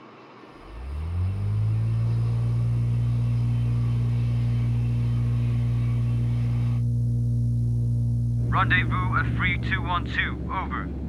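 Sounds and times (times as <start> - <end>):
aircraft engine droning: 0.4 - 11.0
high hiss: 0.6 - 10.4.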